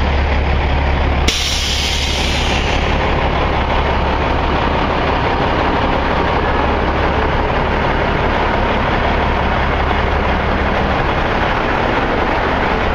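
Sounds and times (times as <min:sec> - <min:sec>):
heavy vehicle engine running: 0:00.0 - 0:12.9.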